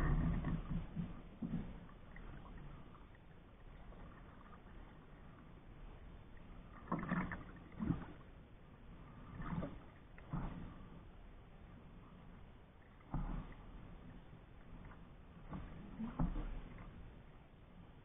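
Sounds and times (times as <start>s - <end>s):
paddle splashing in water: 0.0s - 11.1s, 11.9s - 17.2s.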